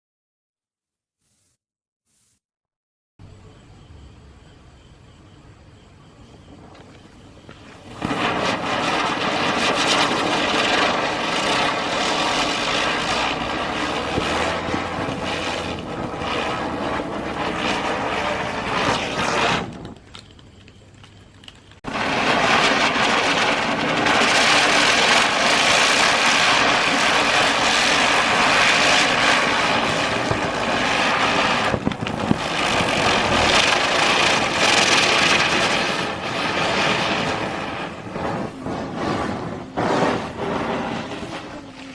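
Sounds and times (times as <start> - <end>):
firecrackers hissing: 6.2 - 41.9.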